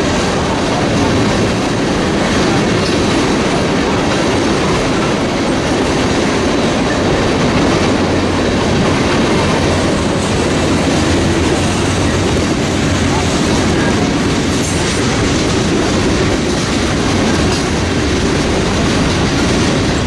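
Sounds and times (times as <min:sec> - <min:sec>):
steel train wheels on rails: 0:00.0 - 0:20.0.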